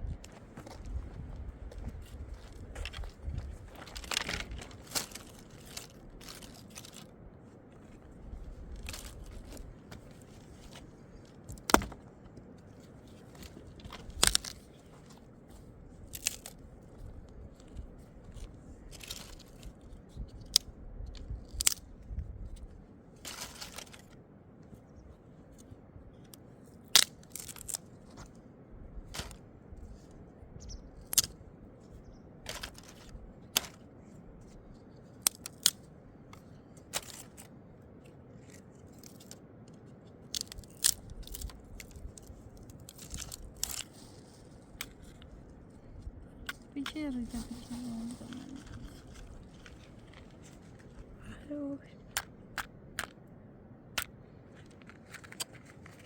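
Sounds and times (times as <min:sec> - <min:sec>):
crunching and scraping handling: 0:00.0 - 0:21.8, 0:22.5 - 0:24.8, 0:25.5 - 0:28.4, 0:30.9 - 0:53.1, 0:54.0 - 0:56.0
faint low rumble: 0:00.0 - 0:26.3, 0:28.0 - 0:56.0.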